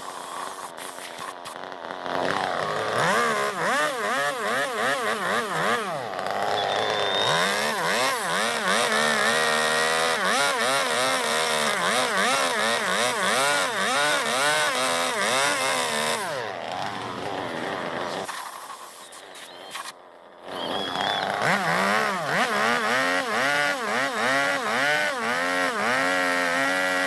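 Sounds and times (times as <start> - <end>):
chainsaw revving cutting wood: 0.0 - 18.4, 20.3 - 27.0.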